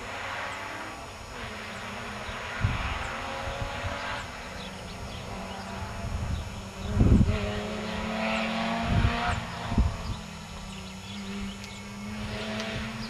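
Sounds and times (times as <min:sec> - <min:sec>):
distant rally car engine accelerating: 0:00.0 - 0:13.0.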